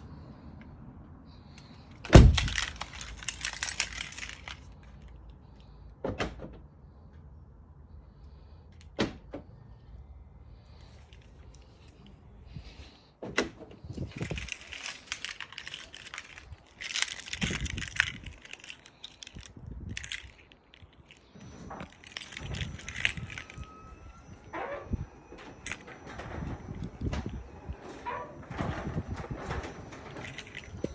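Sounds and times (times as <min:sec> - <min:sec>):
handling clicks and rustling: 0:00.0 - 0:05.8, 0:10.6 - 0:30.9.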